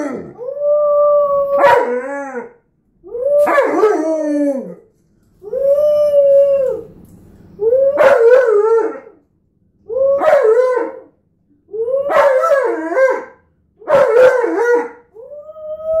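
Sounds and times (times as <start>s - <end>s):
dog howling: 0.0s - 7.0s, 7.6s - 9.2s, 9.9s - 11.1s, 11.7s - 16.0s.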